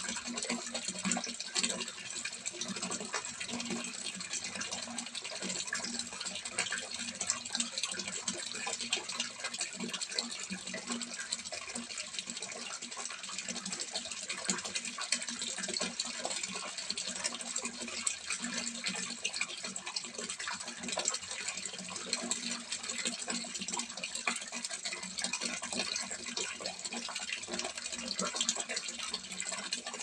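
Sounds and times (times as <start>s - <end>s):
water pouring into pond: 0.0s - 30.0s.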